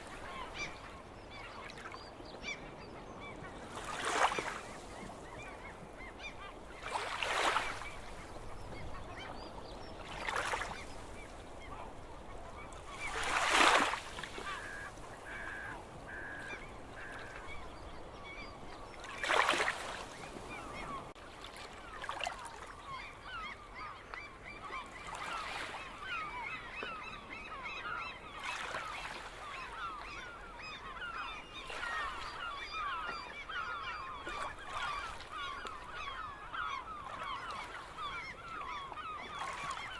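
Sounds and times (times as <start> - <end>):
seagulls calling: 0.0 - 39.9.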